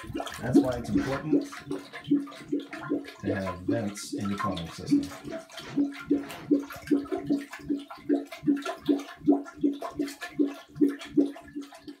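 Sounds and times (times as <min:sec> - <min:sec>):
drain gurgling: 0:00.0 - 0:12.0.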